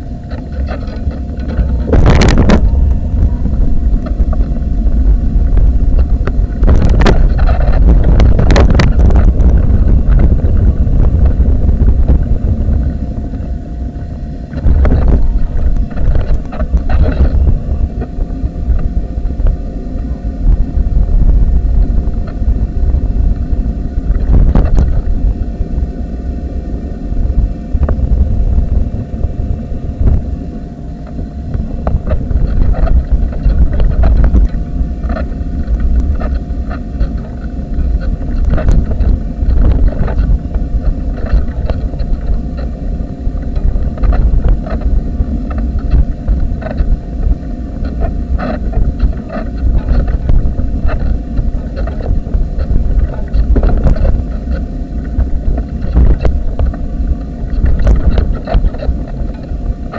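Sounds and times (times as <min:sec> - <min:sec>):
faint steady hum: 0:00.0 - 0:59.9
wind on microphone: 0:00.0 - 0:59.9.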